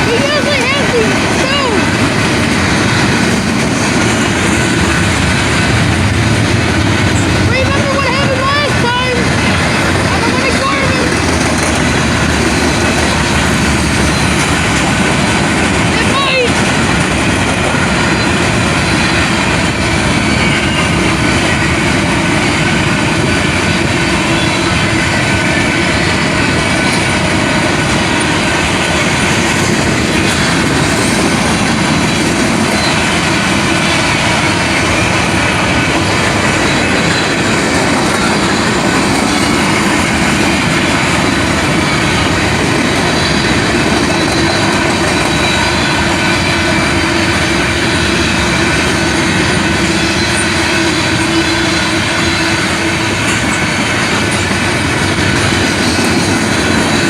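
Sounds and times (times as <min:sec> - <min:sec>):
train rumbling past on rails: 0:00.0 - 0:57.0.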